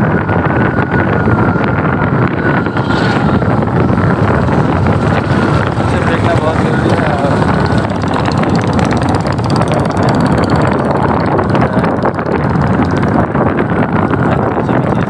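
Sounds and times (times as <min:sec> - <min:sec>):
motorcycle running: 0:00.0 - 0:15.0
wind rushing over microphone: 0:00.0 - 0:15.0.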